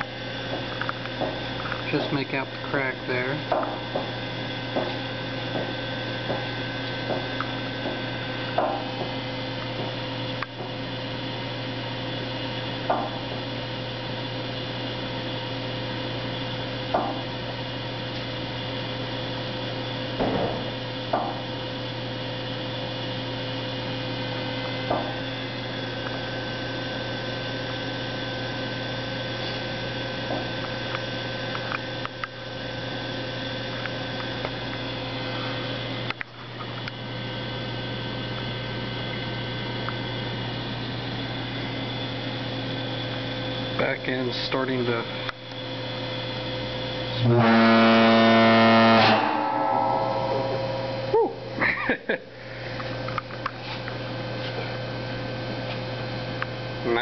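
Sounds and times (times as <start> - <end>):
hydraulic rig hum: 0.0 - 57.0.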